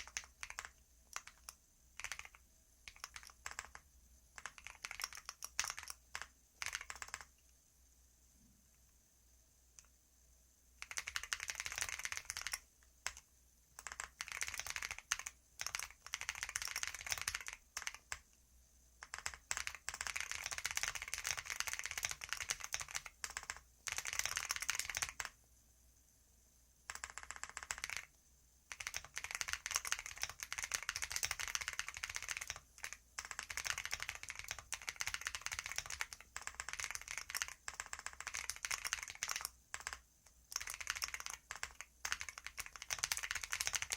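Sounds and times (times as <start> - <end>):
fast keyboard typing: 0.0 - 7.4, 10.8 - 18.3, 19.0 - 25.4, 26.9 - 28.1, 28.7 - 43.9.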